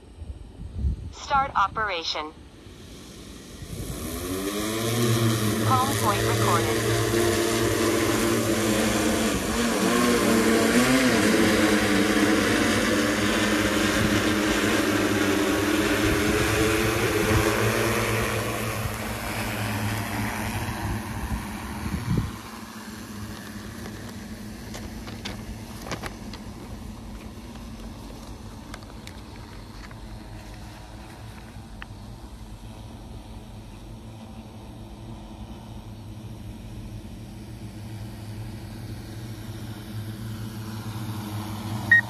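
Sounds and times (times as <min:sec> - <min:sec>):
drone propellers humming: 0:00.0 - 0:42.0.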